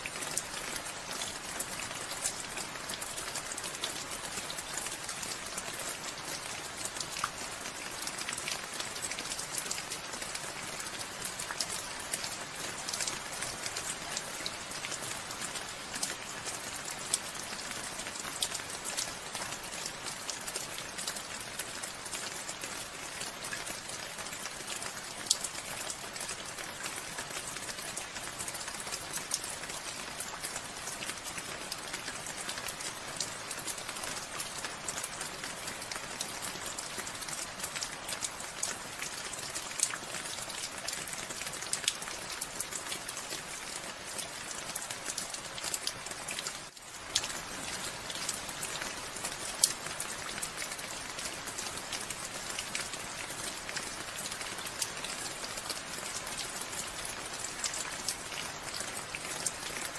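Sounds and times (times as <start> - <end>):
raindrops ticking close by: 0.0 - 59.9
steady rain falling: 0.0 - 59.9.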